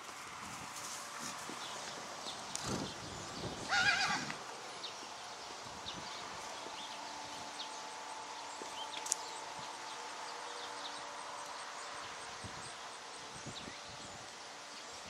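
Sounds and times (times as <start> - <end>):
small birds chirping: 0.0 - 15.0
steady background noise: 0.0 - 15.0.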